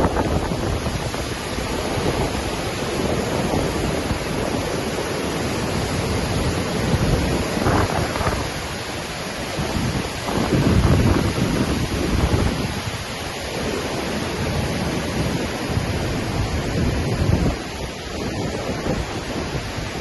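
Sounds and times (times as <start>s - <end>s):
waterfall crashing: 0.0s - 20.0s.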